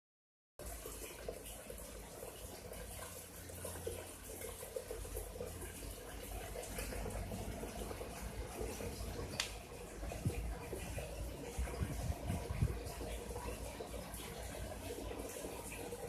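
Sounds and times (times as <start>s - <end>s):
water gurgling: 0.6s - 16.0s
water trickling and splashing: 0.6s - 16.0s.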